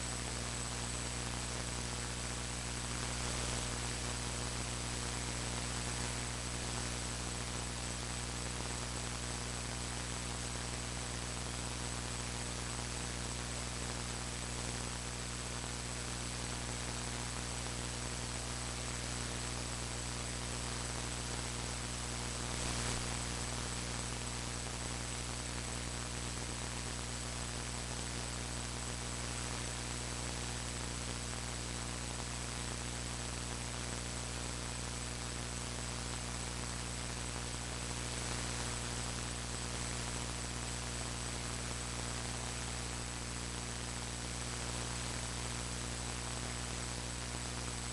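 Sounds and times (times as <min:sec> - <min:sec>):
electrical hum: 0:00.0 - 0:47.9
static hiss: 0:00.0 - 0:47.9.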